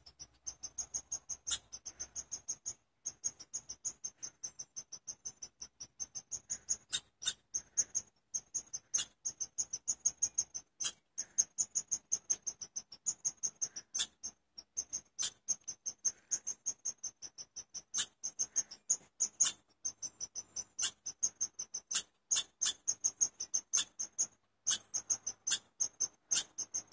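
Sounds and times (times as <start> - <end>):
chipmunk chirping: 0.0 - 26.9.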